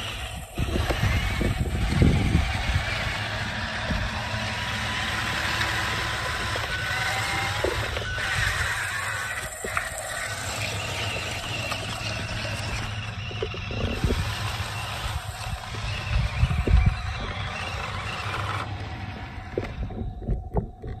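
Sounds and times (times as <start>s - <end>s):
toy truck motors whirring in sand: 0.0s - 21.0s.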